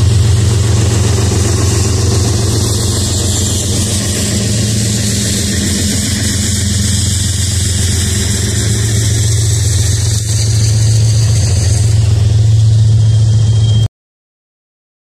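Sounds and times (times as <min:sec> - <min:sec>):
diesel engine idling: 0:00.0 - 0:13.5.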